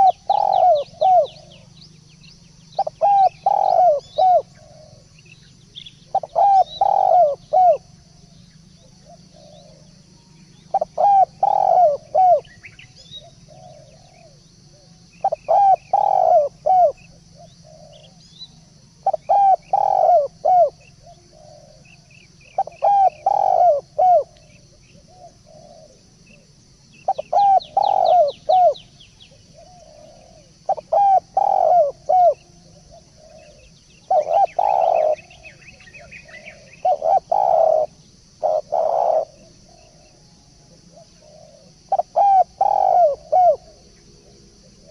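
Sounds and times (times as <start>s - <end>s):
dove cooing: 0.0s - 1.8s, 2.7s - 44.9s
small birds chirping: 0.0s - 44.9s.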